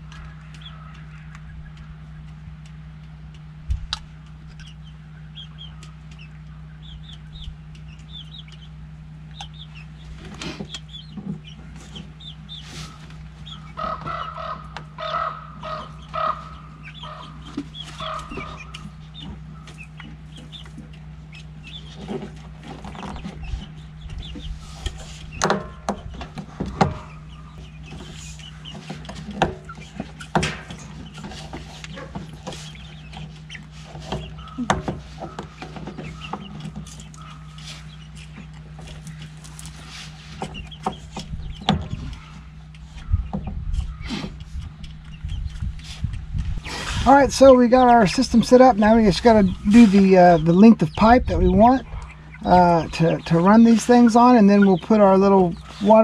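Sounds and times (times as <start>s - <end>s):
hens clucking: 0.0s - 56.0s
steady low hum: 0.0s - 56.0s.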